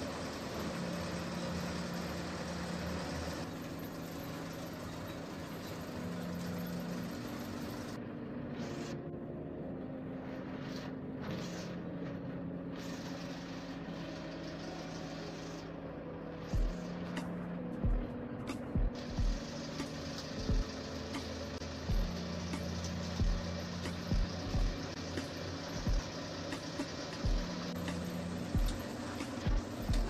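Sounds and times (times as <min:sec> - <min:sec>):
slow background music: 0:00.0 - 0:30.0.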